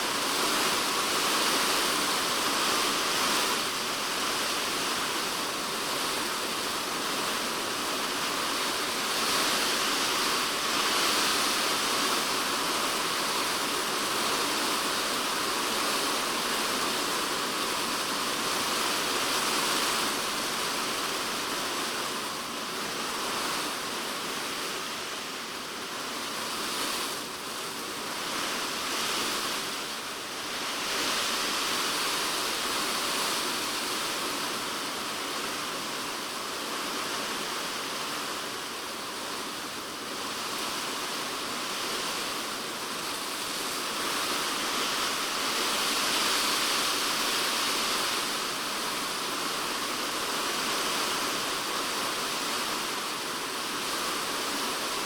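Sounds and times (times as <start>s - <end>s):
heavy rain on plastic roof: 0.0s - 55.0s.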